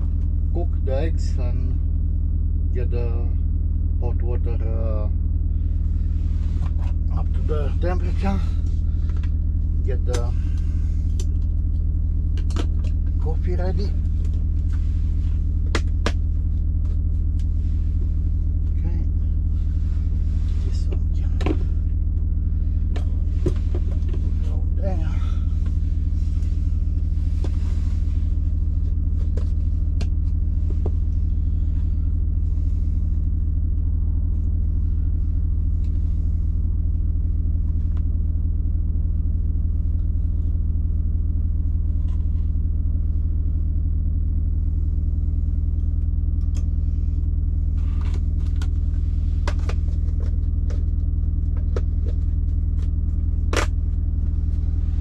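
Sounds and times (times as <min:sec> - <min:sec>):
low engine rumble: 0:00.0 - 0:55.0.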